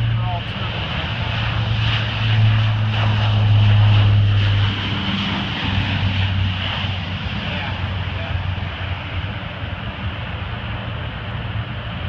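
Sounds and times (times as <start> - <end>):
propeller aircraft drone: 0.0 - 12.0.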